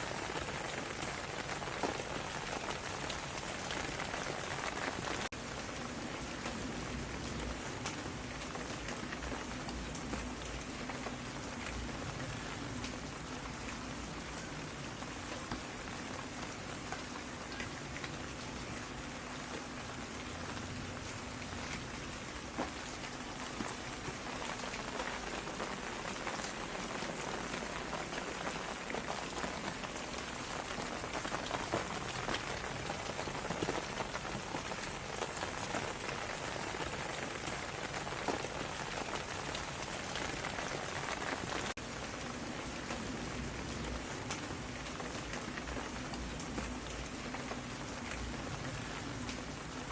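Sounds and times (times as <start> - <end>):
raindrops ticking: 0.0 - 49.9
steady rain falling: 0.0 - 49.9.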